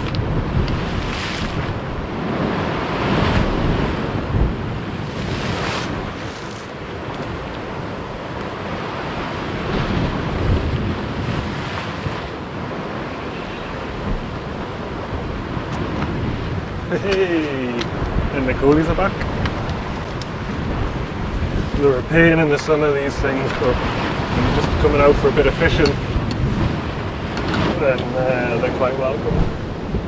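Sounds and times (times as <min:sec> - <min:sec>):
sea waves washing against rocks: 0:00.0 - 0:30.0
wind buffeting microphone: 0:00.0 - 0:30.0.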